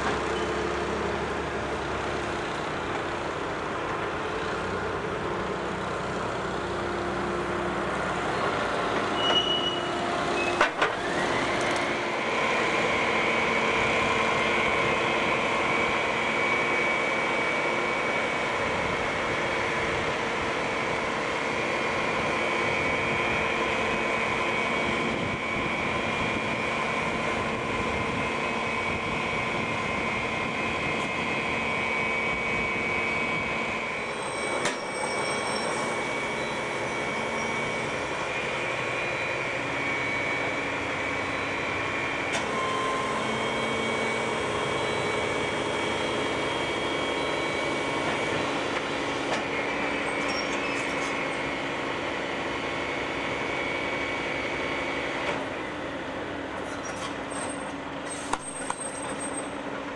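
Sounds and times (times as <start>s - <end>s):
wheel loader engine drone: 0.0s - 59.9s.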